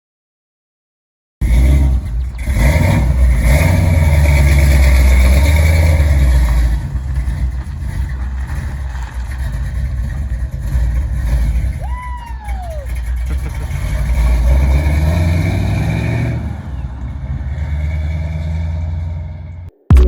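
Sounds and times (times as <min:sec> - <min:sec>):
vehicle engine rumbling: 0:01.4 - 0:20.0.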